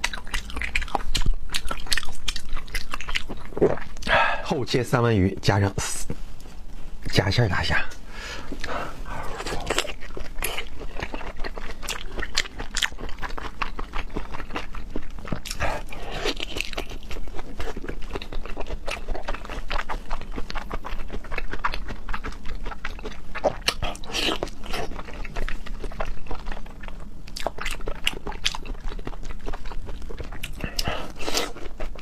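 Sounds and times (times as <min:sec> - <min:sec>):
wet chewing and lip-smacking: 0:00.0 - 0:04.1, 0:08.6 - 0:32.0.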